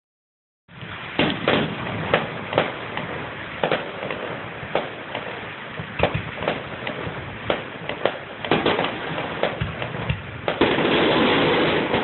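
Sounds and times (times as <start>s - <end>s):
fireworks popping and banging: 0.7s - 12.0s
steady hiss: 0.7s - 12.0s.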